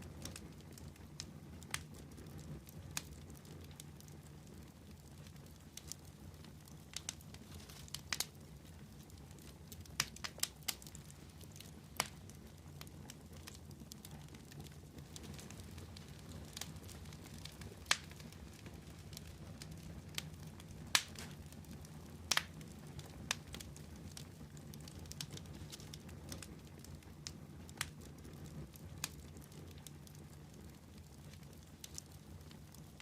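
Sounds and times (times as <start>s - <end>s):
fire crackling and popping: 0.0s - 33.0s
low fire rumble: 0.0s - 33.0s.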